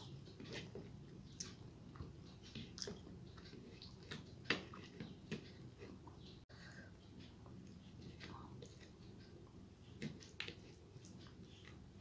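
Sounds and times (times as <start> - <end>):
person chewing food: 0.0 - 6.4, 7.2 - 12.0.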